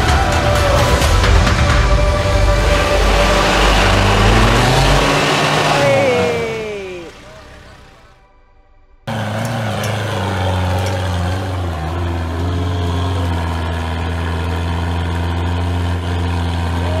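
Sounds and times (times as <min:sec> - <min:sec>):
car engine idling: 0:00.0 - 0:08.2, 0:09.1 - 0:17.0.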